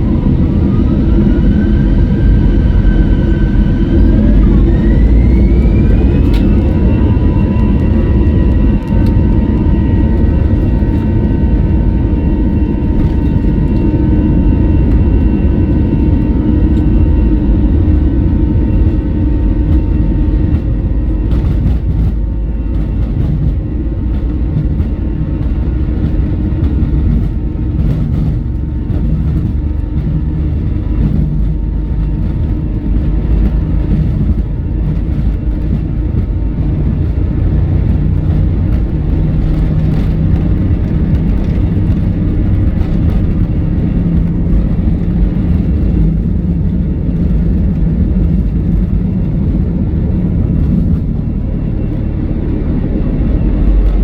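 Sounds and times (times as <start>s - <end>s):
jet engine cabin rumble: 0.0s - 54.0s.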